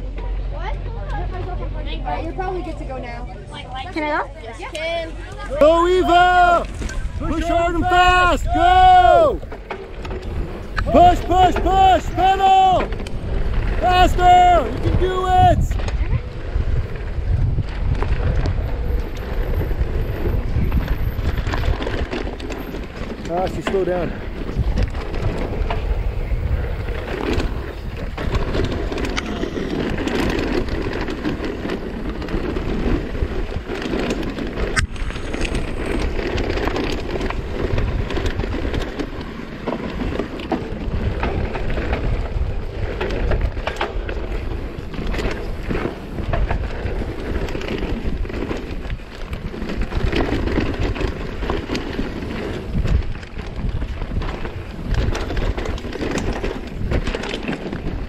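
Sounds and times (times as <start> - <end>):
bike tyres rumbling over dirt: 0.0 - 58.0
bike clicks and rattles: 3.9 - 58.0
wind rushing over microphone: 5.0 - 58.0.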